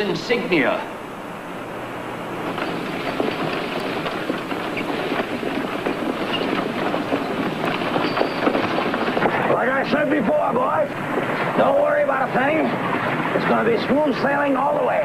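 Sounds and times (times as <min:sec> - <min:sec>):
hooves clopping: 0:02.3 - 0:15.0
wagon wheels clattering: 0:02.4 - 0:15.0.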